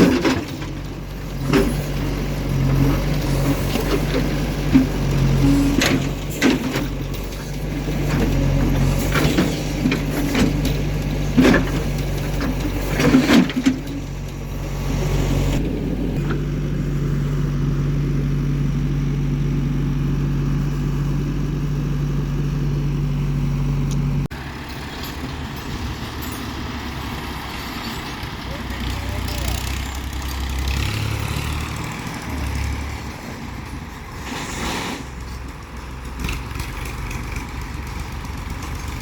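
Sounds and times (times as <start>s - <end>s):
heavy diesel engine running: 0.0s - 39.0s.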